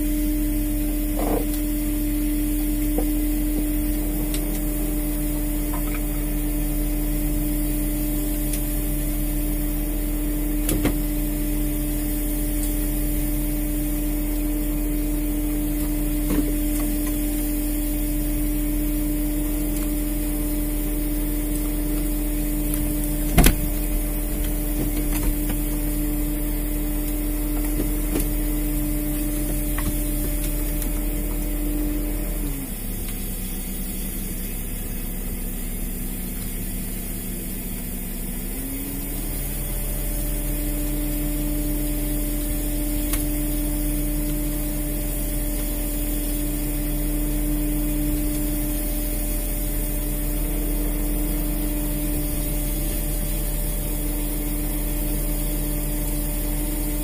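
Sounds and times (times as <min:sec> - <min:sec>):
boat machinery humming: 0:00.0 - 0:57.0.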